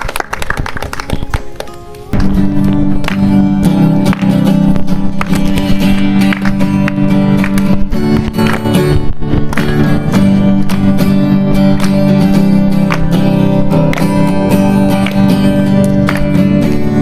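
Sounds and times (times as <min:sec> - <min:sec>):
strummed acoustic guitar music: 0:00.9 - 0:17.0.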